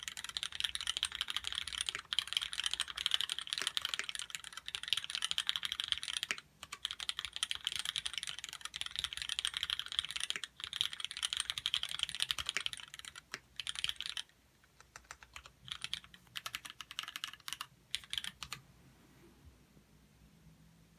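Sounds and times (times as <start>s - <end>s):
mechanical keyboard typing: 0.0s - 18.6s.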